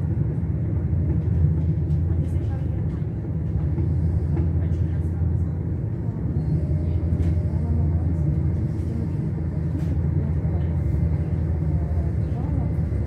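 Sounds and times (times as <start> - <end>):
train rumble from inside carriage: 0.0 - 13.0.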